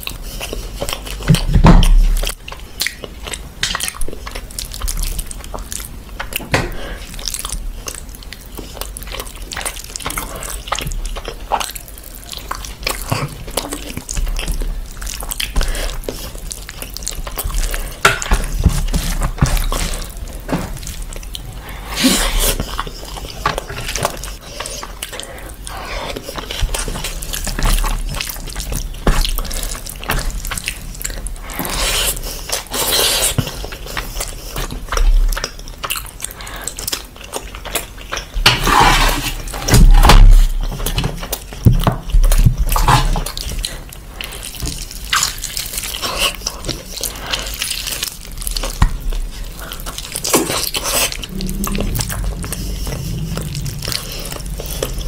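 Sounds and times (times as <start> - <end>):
wet chewing and lip smacking: 0.0 - 38.4, 40.4 - 55.0.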